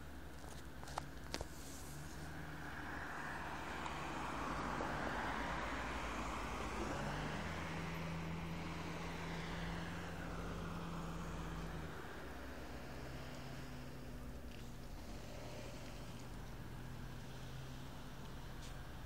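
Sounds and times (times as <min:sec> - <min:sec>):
car passing close by: 0:01.8 - 0:19.0.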